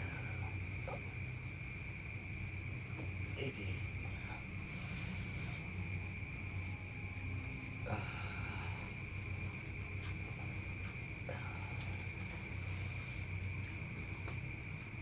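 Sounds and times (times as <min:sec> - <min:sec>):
insects trilling: 0:00.0 - 0:15.0
low steady hum: 0:00.0 - 0:15.0.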